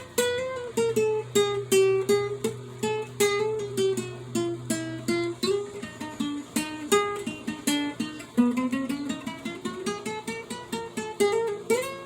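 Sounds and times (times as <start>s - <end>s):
guitar plucked notes: 0.0s - 12.0s.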